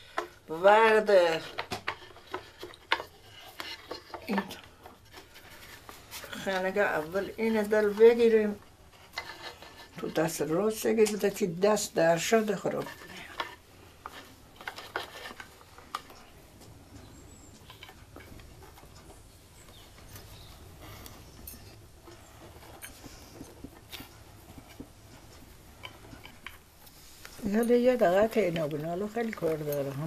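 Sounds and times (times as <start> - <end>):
yarn rustling: 0.0 - 30.0.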